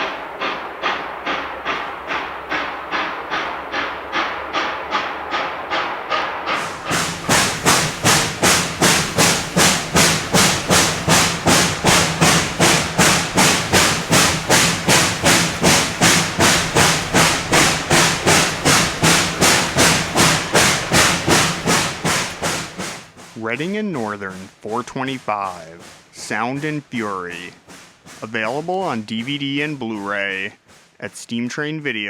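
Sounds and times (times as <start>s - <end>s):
steam locomotive exhaust chuffing: 0.0s - 32.0s.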